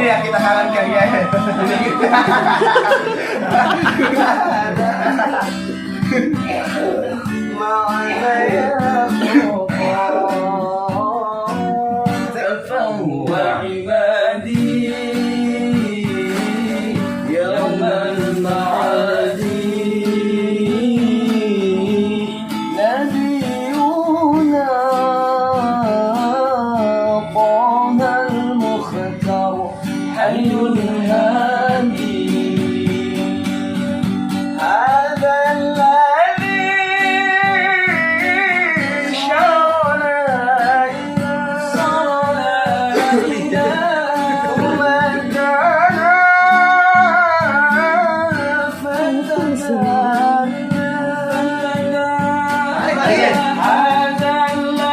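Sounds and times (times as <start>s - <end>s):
person singing devotional song: 0.0s - 33.6s, 34.6s - 54.9s
acoustic guitar: 0.0s - 54.9s.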